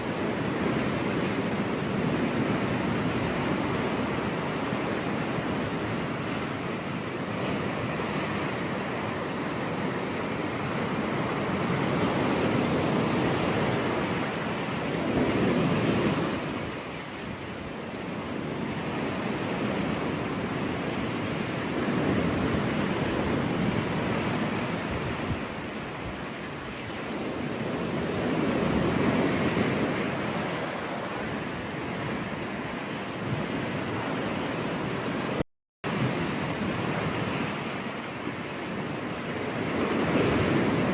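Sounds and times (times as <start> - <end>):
ocean surf breaking on beach: 0.0 - 40.9.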